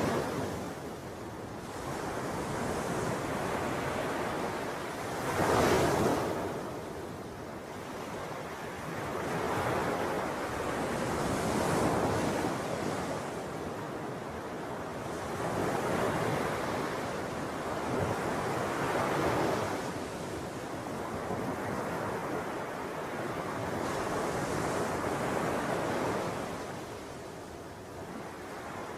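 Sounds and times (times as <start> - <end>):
ocean waves washing: 0.0 - 28.9.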